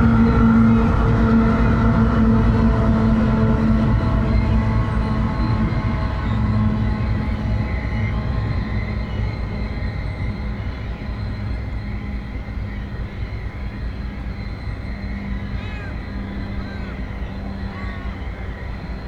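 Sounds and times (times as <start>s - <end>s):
low engine tone: 0.0s - 19.0s
train wagons rumbling on rails: 0.0s - 19.0s.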